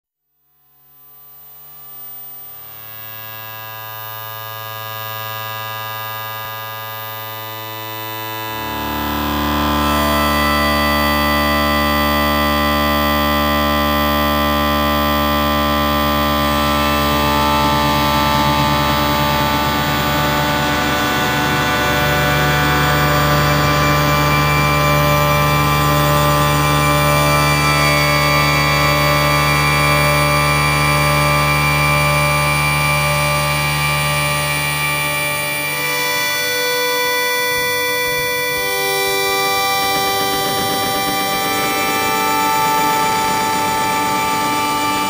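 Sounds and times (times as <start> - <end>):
droning background music: 6.0 - 45.0.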